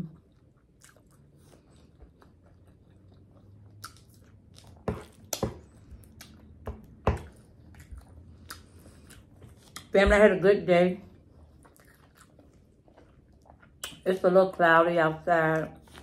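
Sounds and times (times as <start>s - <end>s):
quiet chewing: 0.0s - 10.0s, 11.0s - 14.1s, 15.5s - 16.0s.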